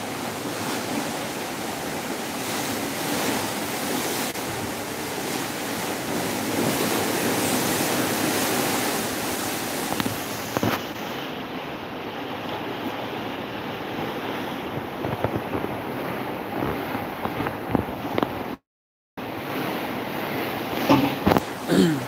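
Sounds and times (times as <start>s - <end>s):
wind on microphone: 0.0s - 11.9s, 12.8s - 18.6s
water splashing along boat hull: 0.0s - 18.6s, 19.2s - 22.0s.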